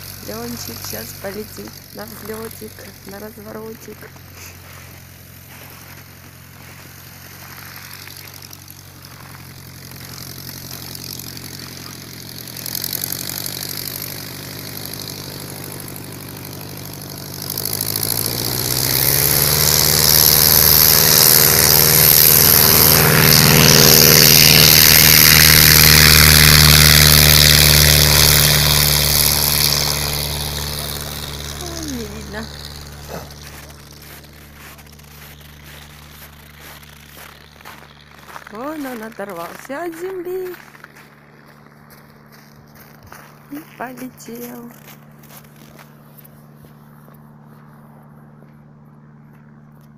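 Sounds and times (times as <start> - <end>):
propeller plane engine: 0.0 - 49.9.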